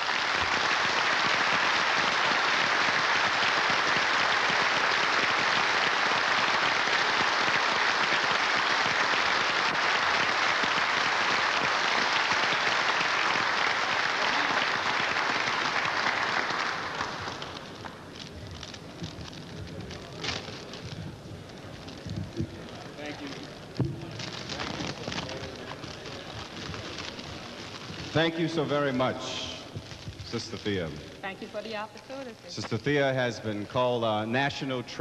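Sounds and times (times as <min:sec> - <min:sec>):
large audience applauding: 0:00.0 - 0:21.0, 0:21.7 - 0:30.8.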